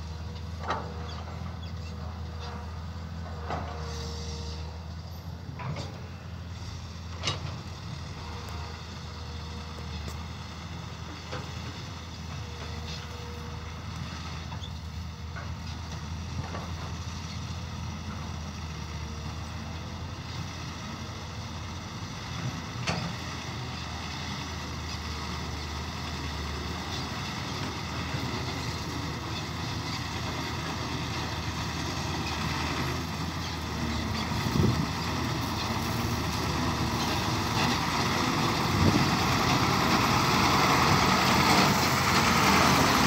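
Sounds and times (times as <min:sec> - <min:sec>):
dump truck diesel engine running: 0:00.0 - 0:43.0.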